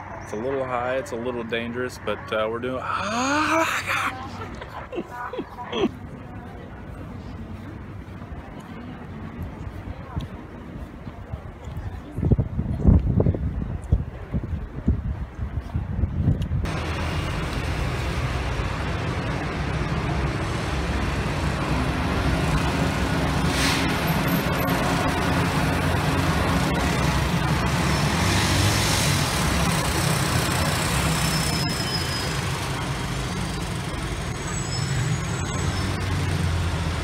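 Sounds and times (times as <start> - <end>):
rumble of cars: 0.0 - 37.0.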